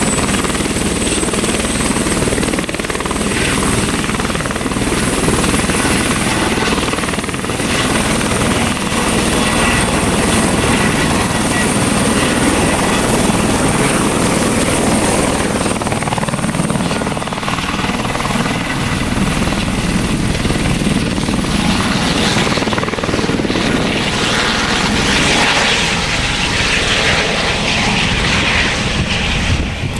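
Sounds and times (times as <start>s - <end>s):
helicopter rotor and turbine noise: 0.0s - 29.9s
high turbine whine: 0.0s - 29.9s.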